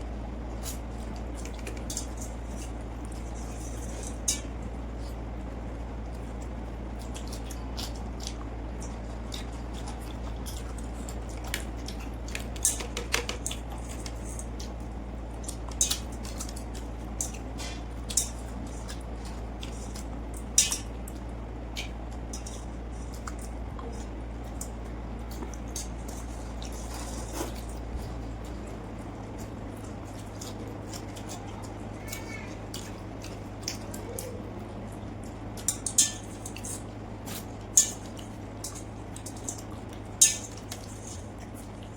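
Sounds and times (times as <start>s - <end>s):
steady low hum: 0.0s - 41.9s
wet squishing and chewing: 0.1s - 41.9s.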